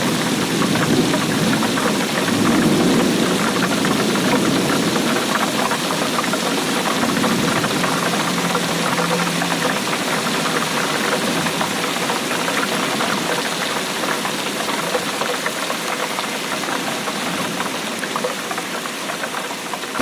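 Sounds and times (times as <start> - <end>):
rain patter: 0.0 - 20.0.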